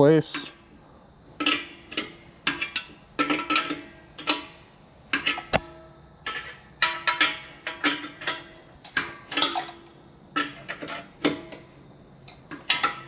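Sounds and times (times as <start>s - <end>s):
wrench clinking on metal: 1.4s - 13.0s.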